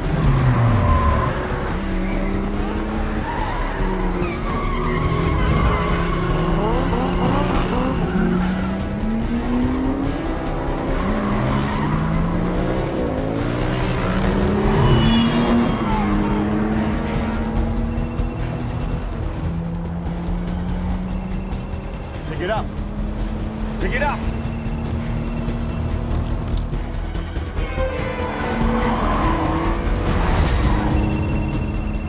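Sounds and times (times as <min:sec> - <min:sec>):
car engines revving: 0:00.0 - 0:32.0
film score music: 0:00.0 - 0:32.0
tyres skidding and squealing: 0:00.0 - 0:32.0.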